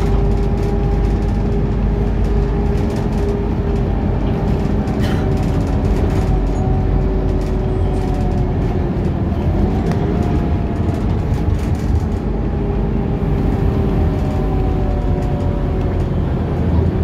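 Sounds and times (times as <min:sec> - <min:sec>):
bus engine rumble: 0:00.0 - 0:17.0
drivetrain tonal hum: 0:00.0 - 0:17.0.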